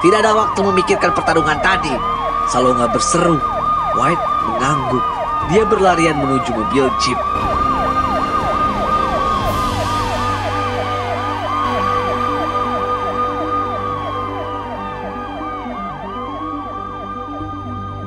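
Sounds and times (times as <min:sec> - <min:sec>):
police siren wail: 0:00.0 - 0:18.0
police siren yelp: 0:00.0 - 0:18.0.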